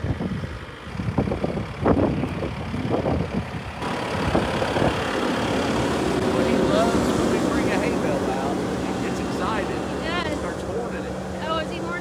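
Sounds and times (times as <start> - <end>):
farm machine engine running: 0.1 - 12.0.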